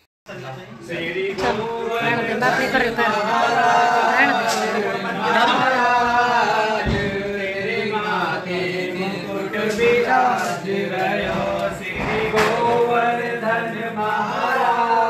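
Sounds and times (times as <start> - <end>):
men chanting in unison: 0.8 - 15.0.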